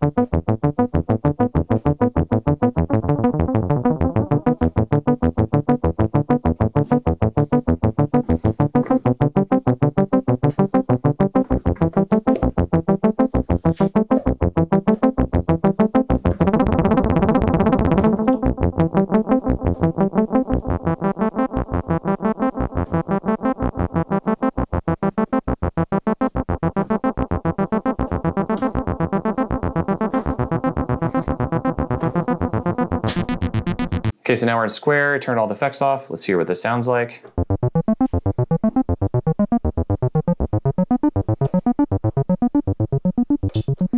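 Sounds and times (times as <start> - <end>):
arpeggiated synth bass line: 0.0 - 34.2, 37.3 - 43.9.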